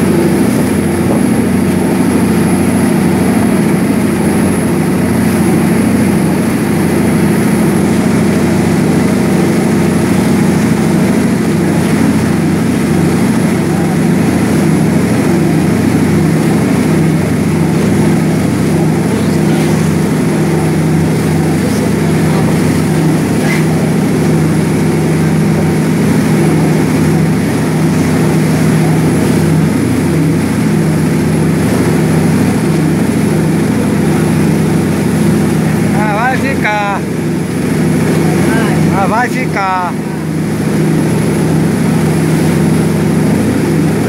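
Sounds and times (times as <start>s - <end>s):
boat diesel engine droning: 0.0s - 44.0s
water churning along hull: 0.0s - 44.0s.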